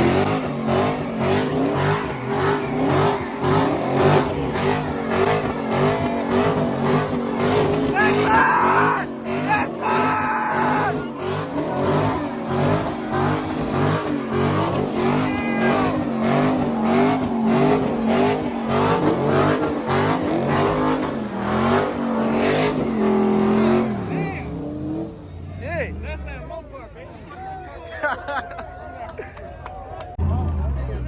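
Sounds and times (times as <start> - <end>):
car engine revving high: 0.0 - 26.5.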